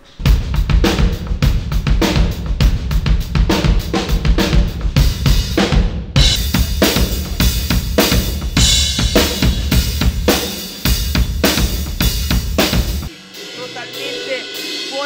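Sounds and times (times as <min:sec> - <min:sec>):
rock music with loud drums: 0:00.2 - 0:15.0.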